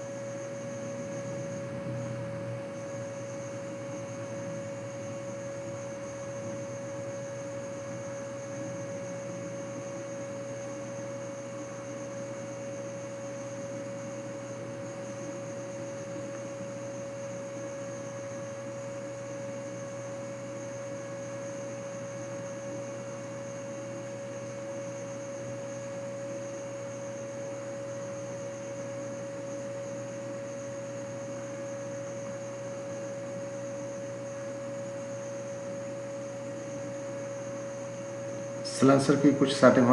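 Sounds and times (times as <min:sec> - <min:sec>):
steady pitched hum: 0:00.0 - 0:39.9
thin high whine: 0:00.0 - 0:39.9.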